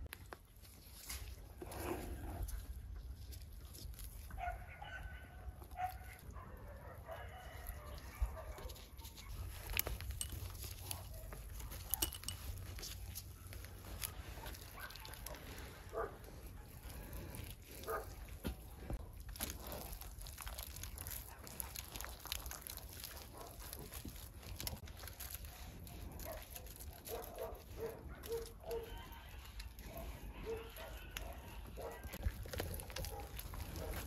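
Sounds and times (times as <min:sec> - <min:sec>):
hands squelching wet clay: 0:00.0 - 0:34.0.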